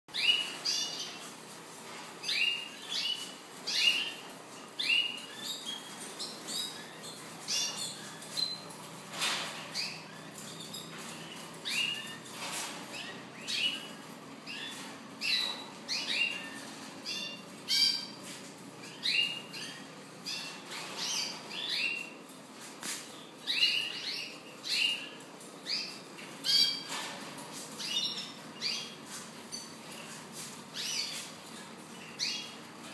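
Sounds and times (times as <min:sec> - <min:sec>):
birds chirping: 0:00.1 - 0:32.9.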